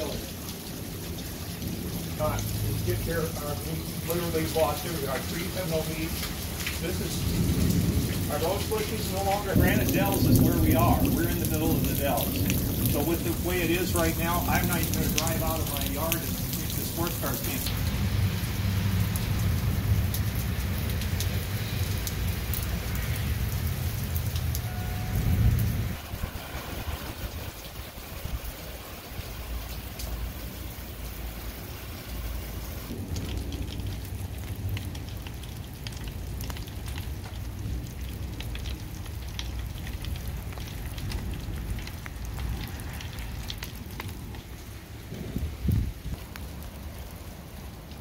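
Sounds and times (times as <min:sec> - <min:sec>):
rain dripping on wet ground: 0:00.0 - 0:48.0.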